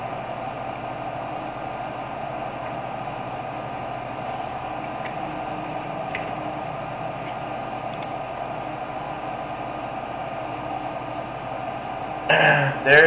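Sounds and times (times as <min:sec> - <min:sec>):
background hiss and hum: 0:00.0 - 0:13.0.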